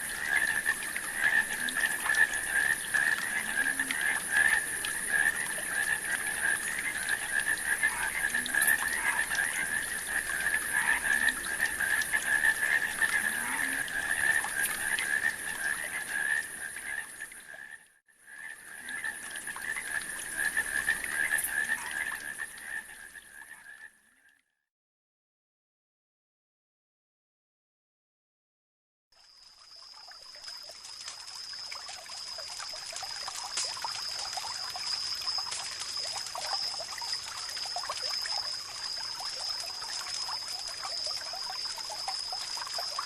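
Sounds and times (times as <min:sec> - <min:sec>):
frogs calling: 0:00.0 - 0:24.3, 0:29.3 - 0:43.0.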